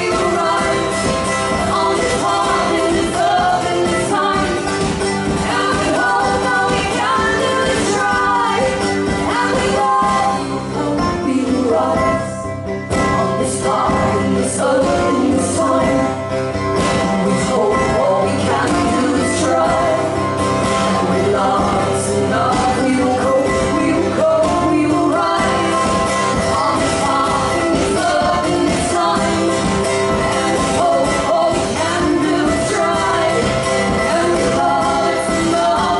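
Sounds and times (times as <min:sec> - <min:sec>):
acoustic guitar: 0:00.0 - 0:35.9
mandolin: 0:00.0 - 0:35.9
women singing: 0:00.0 - 0:35.9.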